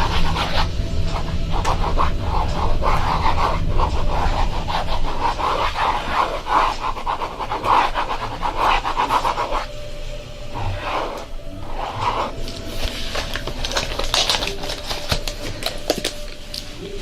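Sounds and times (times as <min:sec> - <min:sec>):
scratching against a microphone: 0:00.0 - 0:09.7, 0:10.6 - 0:17.0
low background music: 0:00.0 - 0:17.0.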